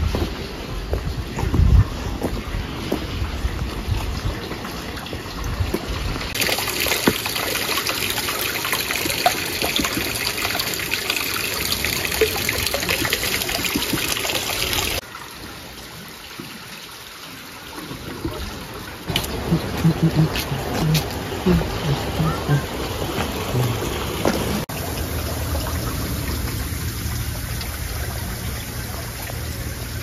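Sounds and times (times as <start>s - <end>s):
water splashing onto water wheel: 0.0s - 30.0s
water trickling: 0.0s - 30.0s.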